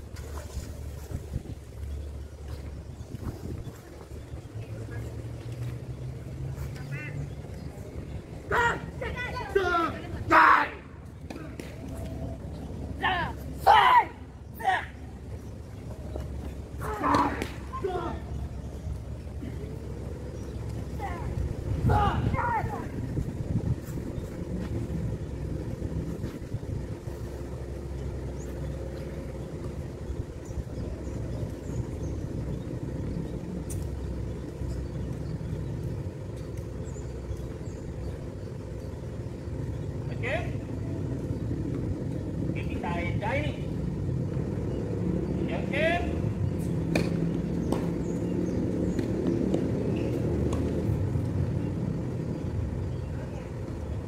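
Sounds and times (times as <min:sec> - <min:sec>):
outdoor background rumble: 0:00.0 - 0:54.0.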